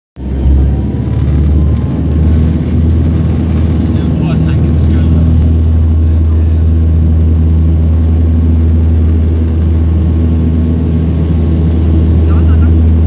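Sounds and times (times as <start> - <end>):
turboprop engines droning: 0.2 - 13.0.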